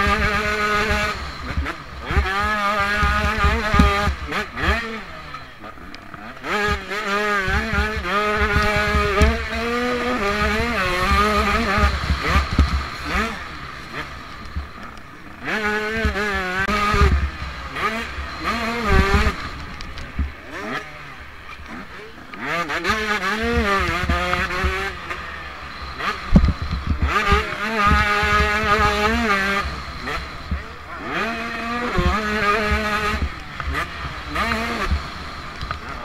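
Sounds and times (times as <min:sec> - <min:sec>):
sharp thumps: 0:00.0 - 0:25.3, 0:26.0 - 0:36.0
motocross bike engine revving: 0:00.0 - 0:36.0.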